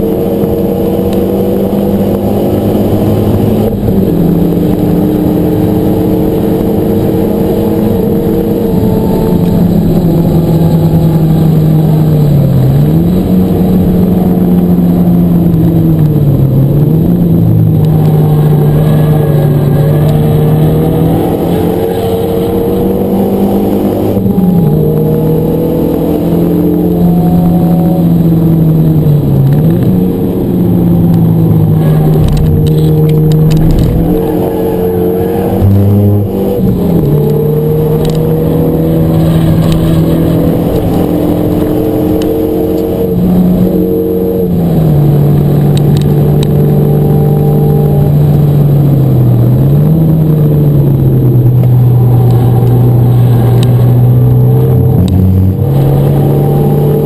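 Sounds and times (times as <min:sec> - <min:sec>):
car engine drone with gear changes: 0:00.0 - 0:57.0.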